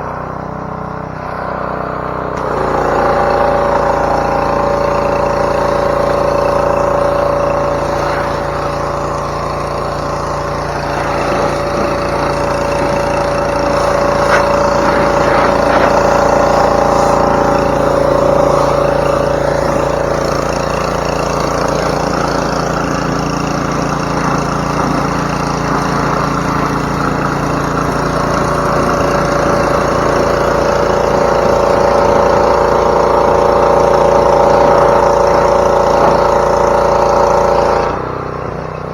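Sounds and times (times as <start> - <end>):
pressure washer engine running: 0.0 - 38.9
water spray hiss: 2.4 - 37.9.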